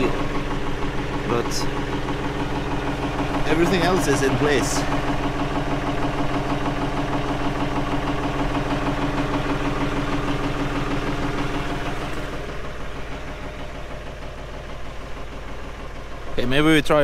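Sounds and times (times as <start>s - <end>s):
steady hum: 0.0s - 16.0s
tractor engine idling: 0.0s - 17.0s.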